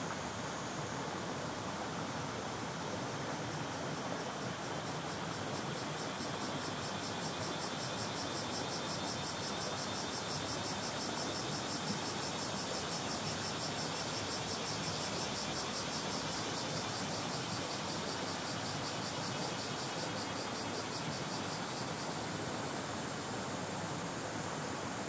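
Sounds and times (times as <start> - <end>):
cicadas buzzing: 0.0 - 24.5
stream running over stones: 0.0 - 25.0.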